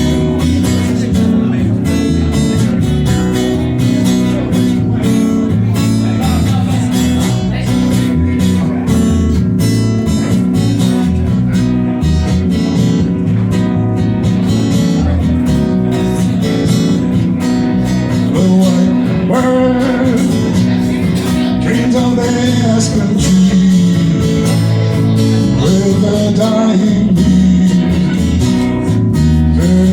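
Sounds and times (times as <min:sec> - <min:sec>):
acoustic guitar strumming: 0:00.0 - 0:29.9
bass guitar notes: 0:00.0 - 0:29.9.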